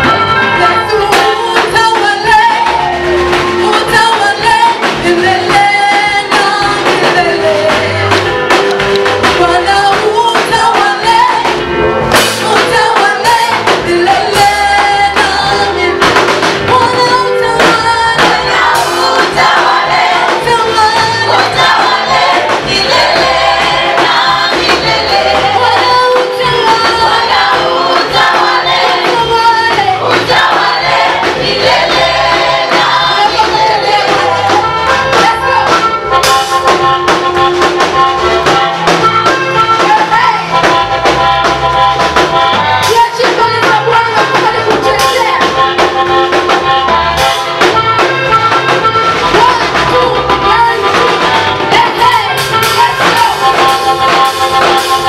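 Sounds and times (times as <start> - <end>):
choir singing gospel song: 0.0 - 55.0
steady beat and bass: 0.0 - 55.0.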